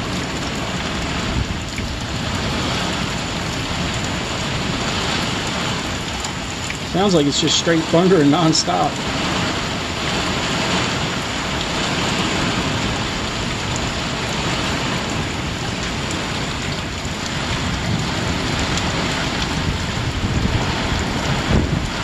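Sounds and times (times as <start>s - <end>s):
heavy rain pouring: 0.0s - 22.0s
thunder rumbling: 0.0s - 22.0s.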